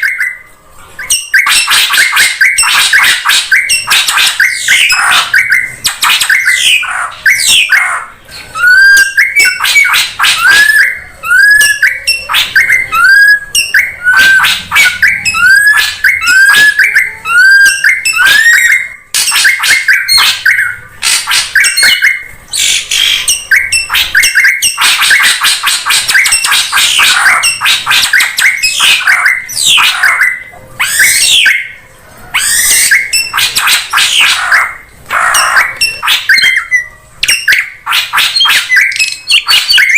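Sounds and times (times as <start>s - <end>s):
bird calls and whistles: 0.0s - 39.9s.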